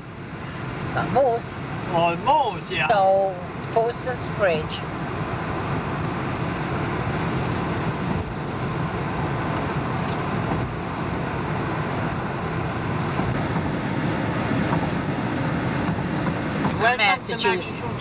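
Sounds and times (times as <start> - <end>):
road and wind noise in car: 0.0 - 18.0.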